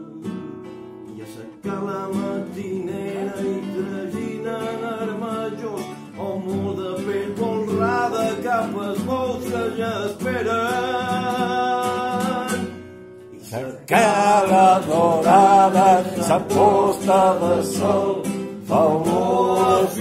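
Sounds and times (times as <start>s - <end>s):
classical guitar strumming: 0.0s - 20.0s
man singing: 0.0s - 20.0s.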